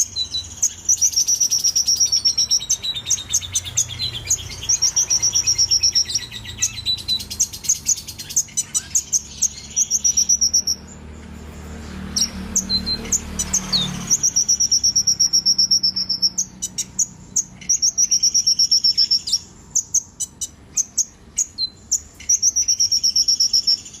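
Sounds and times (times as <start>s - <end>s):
bird singing rapid trills: 0.0s - 24.0s.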